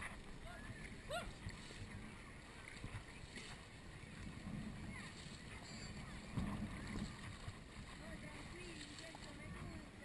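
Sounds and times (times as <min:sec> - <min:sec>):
sea waves lapping: 0:00.0 - 0:10.0.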